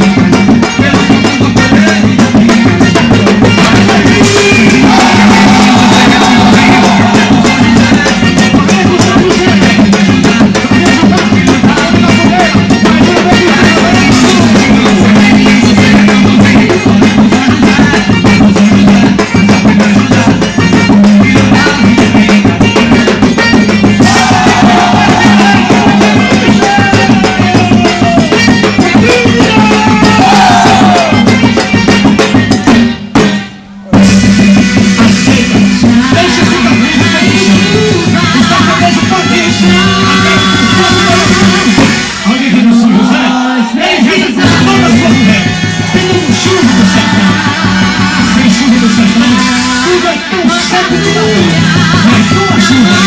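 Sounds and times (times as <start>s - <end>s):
loud music with drums: 0.0s - 53.0s.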